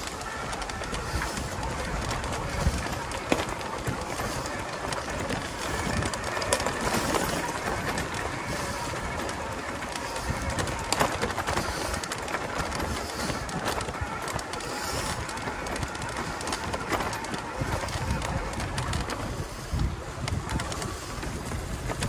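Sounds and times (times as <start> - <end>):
bike tyre and frame rattle: 0.0 - 22.0.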